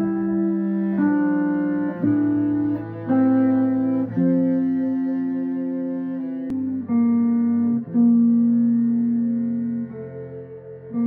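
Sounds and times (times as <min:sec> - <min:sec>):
bowed double bass: 0:00.0 - 0:11.0
electric guitar: 0:00.0 - 0:11.0.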